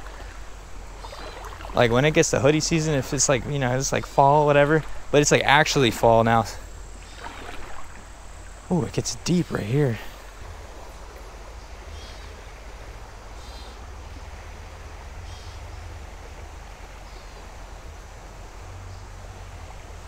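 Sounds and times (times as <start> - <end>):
creek water over rocks: 0.0 - 20.0.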